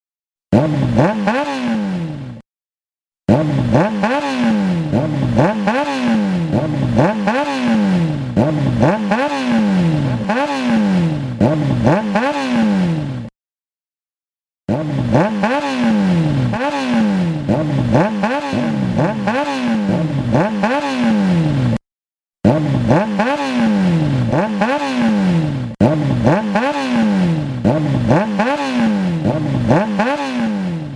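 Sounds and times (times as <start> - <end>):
motorcycle engine revving: 0.5 - 2.4, 3.3 - 13.3, 14.7 - 21.8, 22.4 - 30.9.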